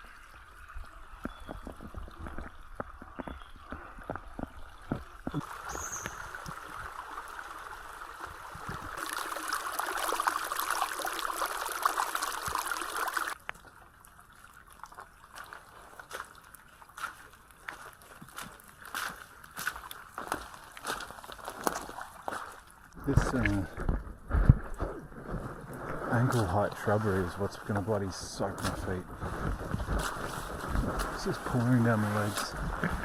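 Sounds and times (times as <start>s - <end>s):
rainwater runoff trickling: 0.0s - 33.0s.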